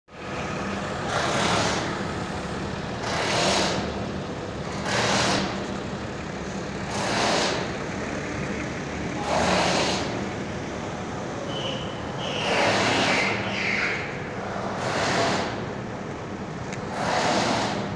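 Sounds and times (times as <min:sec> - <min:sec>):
heavy machinery humming: 0:00.1 - 0:17.9.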